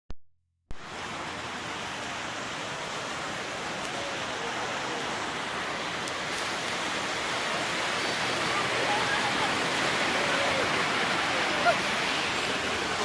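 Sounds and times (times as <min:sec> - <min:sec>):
heavy rain falling: 0:00.7 - 0:13.0.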